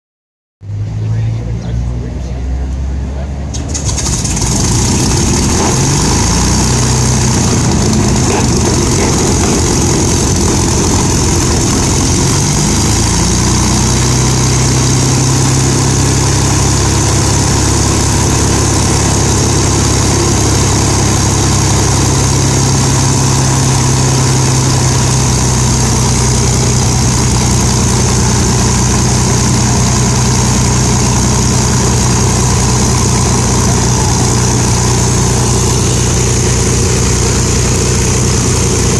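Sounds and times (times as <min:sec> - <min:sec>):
piston aircraft engines droning: 0:00.7 - 0:38.9.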